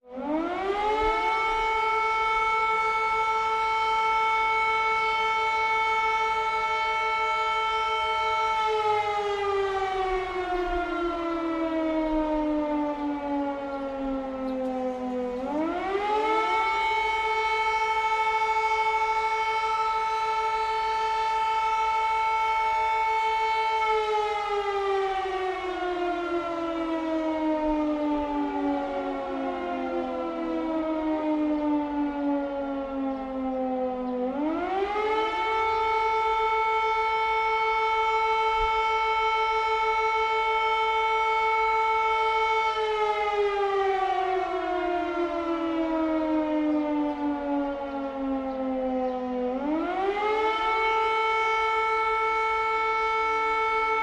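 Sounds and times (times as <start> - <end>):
air raid siren wailing: 0.0 - 54.0.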